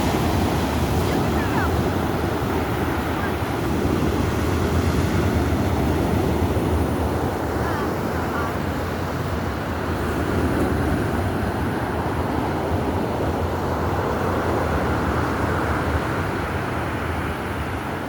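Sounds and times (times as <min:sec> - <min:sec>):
wind buffeting microphone: 0:00.0 - 0:15.2
waves and surf: 0:00.0 - 0:18.0.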